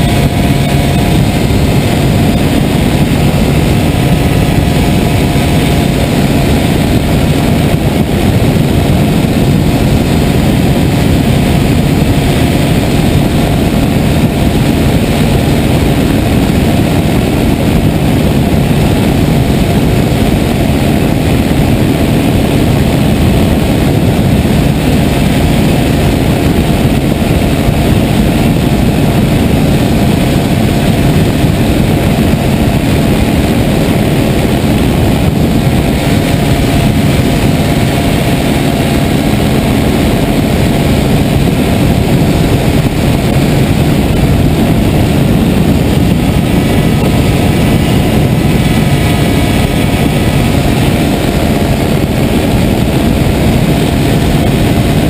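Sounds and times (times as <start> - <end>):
motor and propeller running: 0.0 - 55.0.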